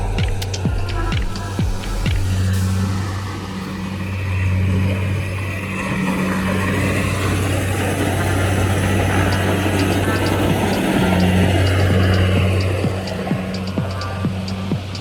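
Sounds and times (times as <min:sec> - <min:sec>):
harvester engine hum: 0:00.0 - 0:15.0
machinery mechanical rush: 0:00.0 - 0:15.0.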